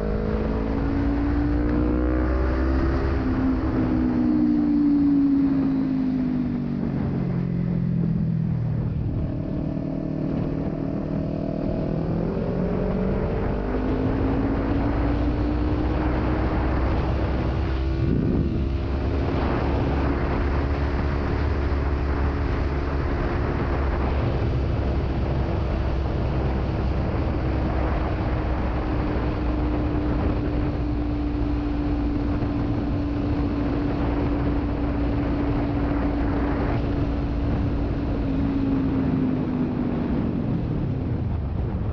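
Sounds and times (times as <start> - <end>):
low wind rumble: 0.0 - 41.9
motorcycle engine accelerating: 0.0 - 41.9.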